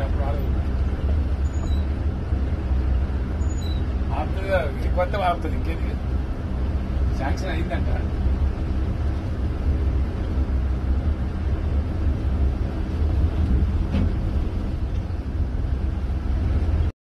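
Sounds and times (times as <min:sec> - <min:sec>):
car engine and tyres rumbling: 0:00.0 - 0:16.9.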